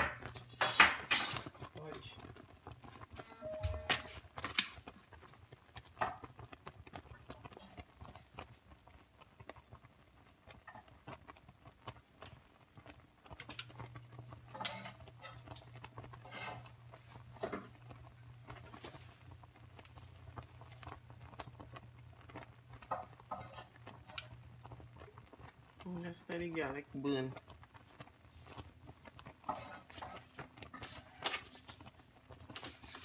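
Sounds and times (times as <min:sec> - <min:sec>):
pots popping on stovetop: 0:00.0 - 0:33.0.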